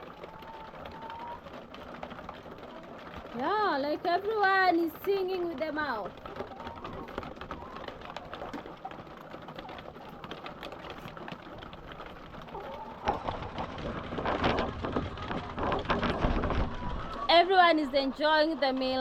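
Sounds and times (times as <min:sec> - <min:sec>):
beaks tapping at feed: 0:00.0 - 0:19.0
hens clucking: 0:00.0 - 0:19.0.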